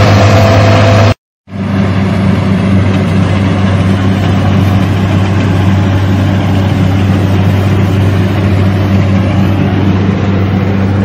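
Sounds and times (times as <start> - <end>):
diesel engine humming under load: 0.0 - 11.0
threshing machinery whine: 0.0 - 11.0.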